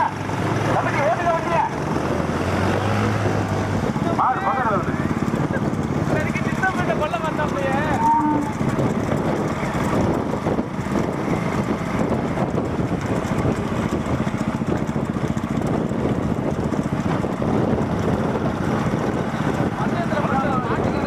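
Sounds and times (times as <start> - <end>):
vehicle engine running: 0.0 - 21.0
wind noise on microphone: 0.0 - 21.0.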